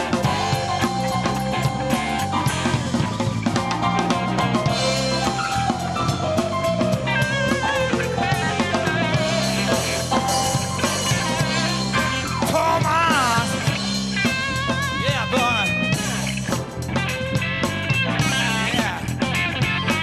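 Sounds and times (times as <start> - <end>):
bass guitar: 0.0 - 20.0
bending lead guitar line: 0.0 - 20.0
drum kit: 0.0 - 20.0
electric guitar: 0.0 - 20.0
keyboard: 0.0 - 20.0.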